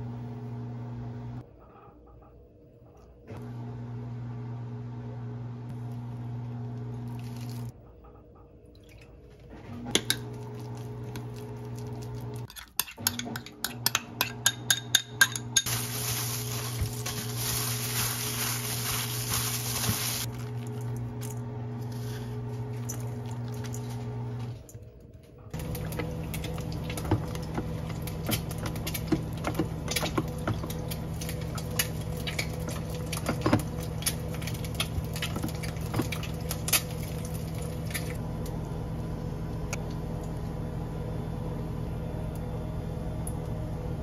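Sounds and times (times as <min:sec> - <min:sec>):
appliance hum: 0:00.0 - 0:44.0.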